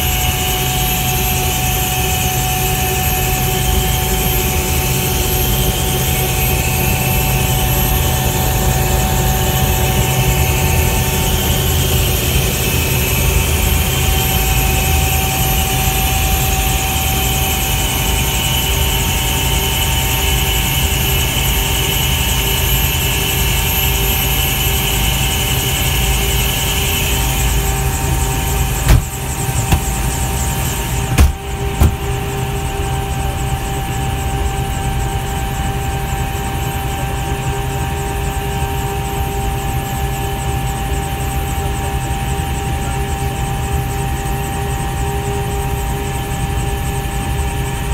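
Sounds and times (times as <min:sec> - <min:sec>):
helicopter turbine whine: 0:00.0 - 0:47.9.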